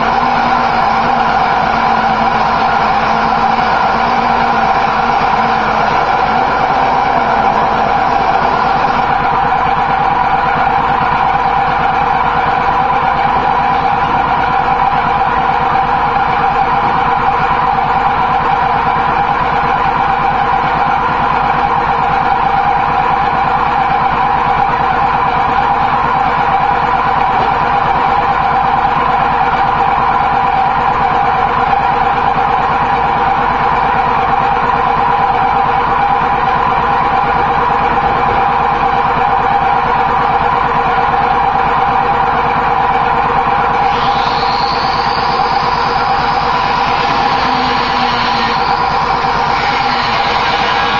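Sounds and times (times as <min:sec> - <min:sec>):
machine motor drone: 0:00.0 - 0:50.9.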